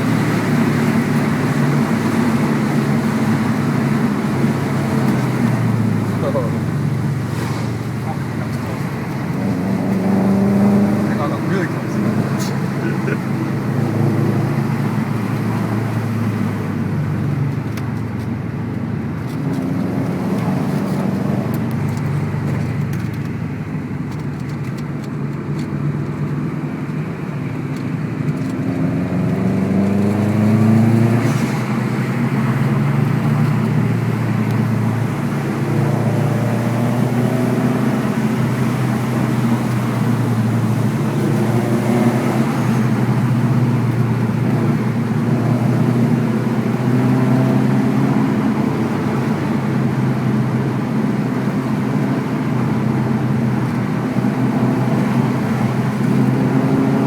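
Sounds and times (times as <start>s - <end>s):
car engine revving while driving: 0.0s - 57.0s.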